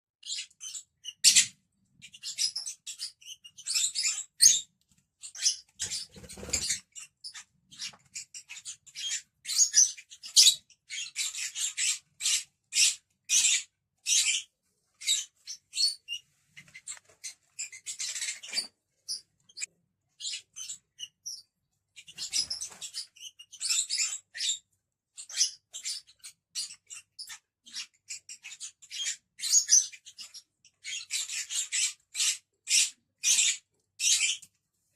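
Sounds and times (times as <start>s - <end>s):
lovebirds chattering: 0.2s - 34.5s.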